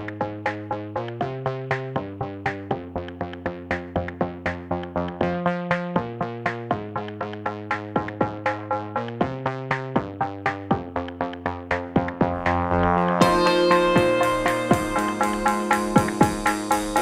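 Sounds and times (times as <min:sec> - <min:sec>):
electronic synth music with beat: 0:00.0 - 0:17.0.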